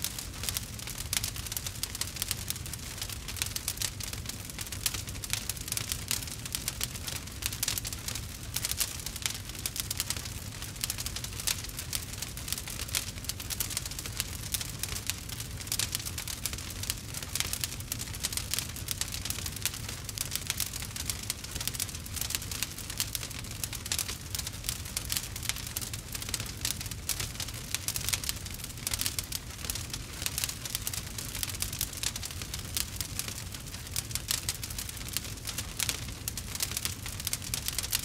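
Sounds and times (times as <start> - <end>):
campfire crackling and popping: 0.0 - 38.0
low rumble of flames: 0.0 - 38.0.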